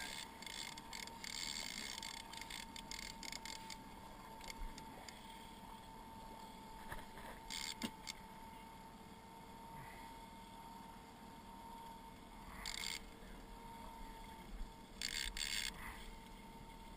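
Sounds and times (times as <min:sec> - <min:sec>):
outboard motor humming: 0:00.0 - 0:16.9.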